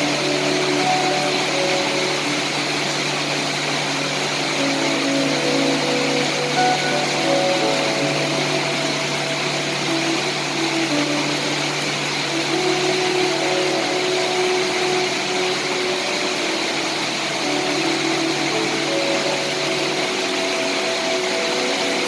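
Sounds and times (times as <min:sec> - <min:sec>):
low steady tones: 0:00.0 - 0:22.0
steady rain hiss: 0:00.0 - 0:22.0.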